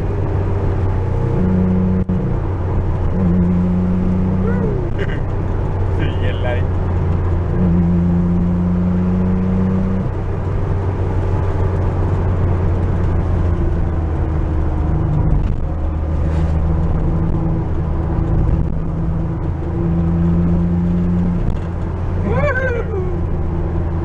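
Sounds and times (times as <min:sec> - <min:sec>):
car engine running with gear changes: 0:00.0 - 0:24.0.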